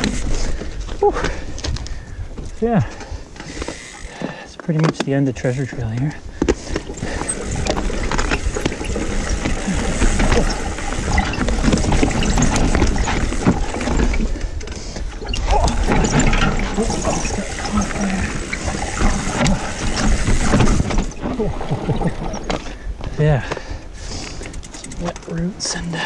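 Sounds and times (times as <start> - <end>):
bike knocking and rattling: 0.0 - 26.0
bike tyres rolling over dirt: 0.0 - 26.0.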